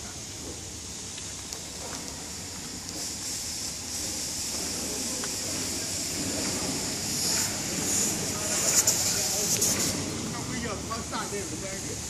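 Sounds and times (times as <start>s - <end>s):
low rumbling background noise: 0.0s - 12.0s
steady hiss: 0.0s - 12.0s.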